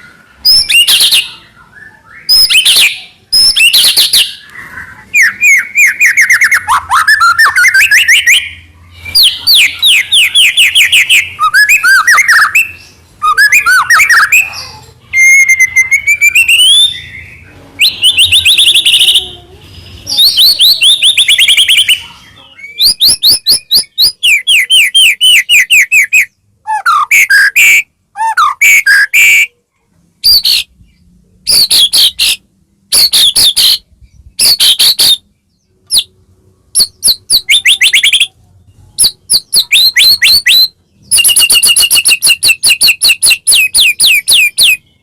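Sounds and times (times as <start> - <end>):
songbird singing whistles and trills: 0.0 - 29.6, 30.2 - 45.0.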